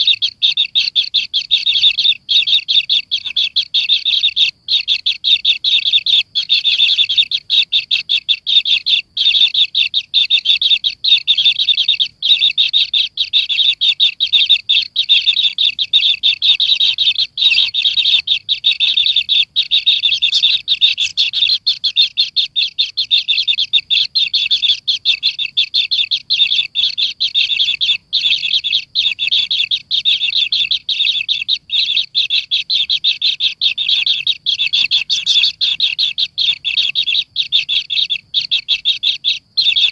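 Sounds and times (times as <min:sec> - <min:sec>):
bird nestling chirping rapidly: 0:00.0 - 0:39.9.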